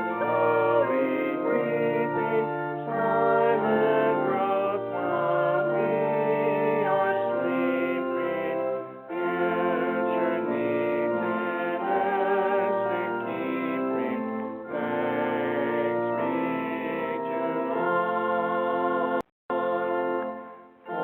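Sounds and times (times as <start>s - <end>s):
keyboard accompaniment: 0.0s - 21.0s
person singing a hymn: 0.0s - 21.0s.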